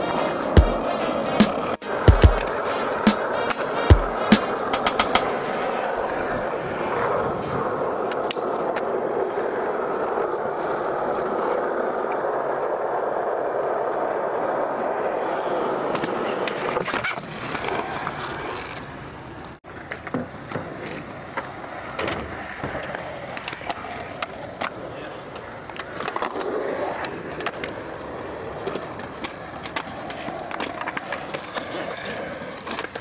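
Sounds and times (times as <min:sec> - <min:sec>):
skateboard clacking: 0:00.0 - 0:33.0
skateboard grinding ledge: 0:00.0 - 0:33.0
skateboard rolling on concrete: 0:00.0 - 0:33.0.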